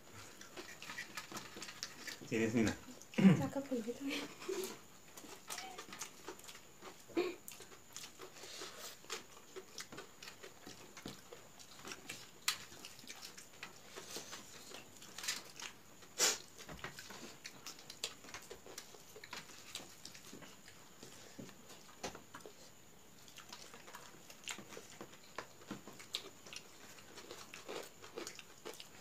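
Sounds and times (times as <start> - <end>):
wet chewing and lip-smacking: 0.2 - 2.2, 4.6 - 29.0.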